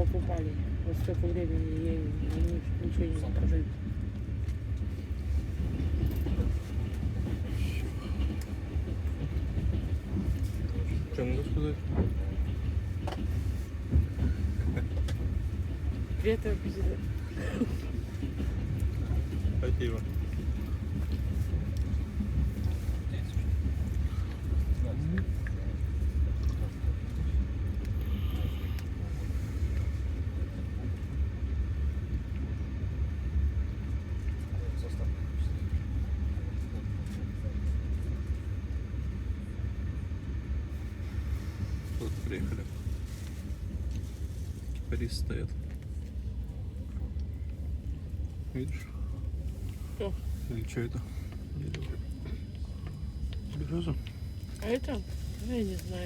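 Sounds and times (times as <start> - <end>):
train running low rumble: 0.0 - 56.0.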